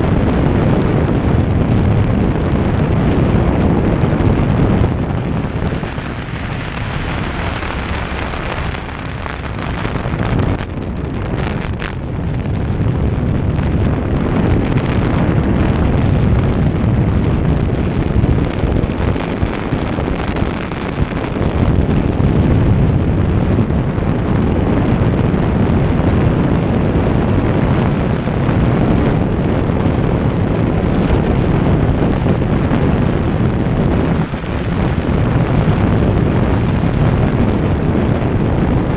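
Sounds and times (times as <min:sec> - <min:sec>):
jet boat engine and water rush: 0:00.0 - 0:38.9
wind buffeting microphone: 0:00.0 - 0:38.9.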